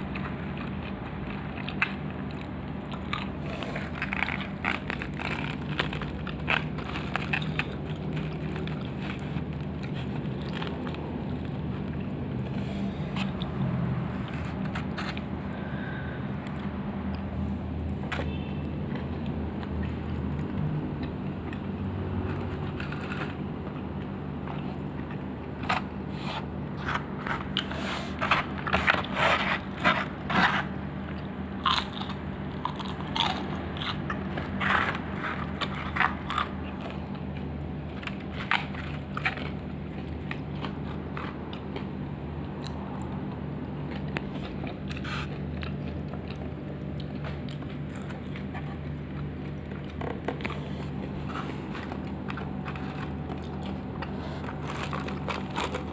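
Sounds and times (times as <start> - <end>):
crunchy chewing of fried chicken: 0.0 - 55.9
steady low hum: 0.0 - 55.9.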